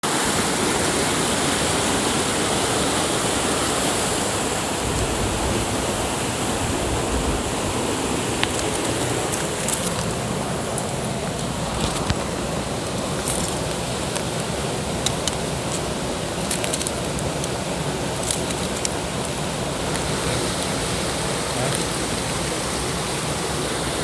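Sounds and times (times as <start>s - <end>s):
river current rushing: 0.0s - 24.0s.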